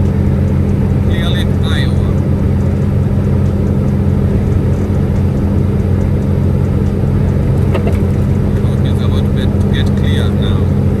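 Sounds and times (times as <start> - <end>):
road noise: 0.0 - 11.0
truck engine droning: 0.0 - 11.0.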